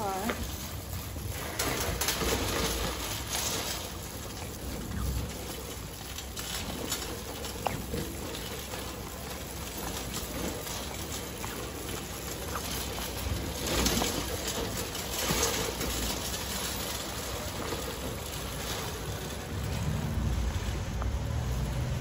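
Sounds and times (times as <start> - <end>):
shopping cart wheels rumbling: 0.0 - 22.0.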